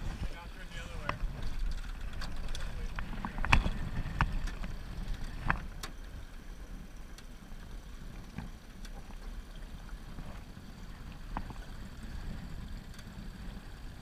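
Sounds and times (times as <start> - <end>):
outboard motor rumble: 0.0 - 14.0.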